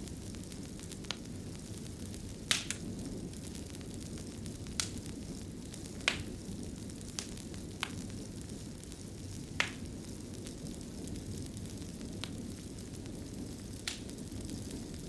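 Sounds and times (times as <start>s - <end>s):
low rumble of flame: 0.0s - 15.0s
wood fire crackling pops: 0.0s - 15.0s.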